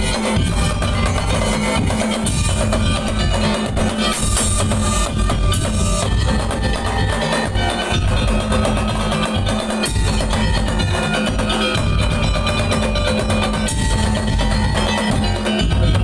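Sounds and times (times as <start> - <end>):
melodic lines: 0.0 - 16.0
percussion ensemble playing: 0.0 - 16.0.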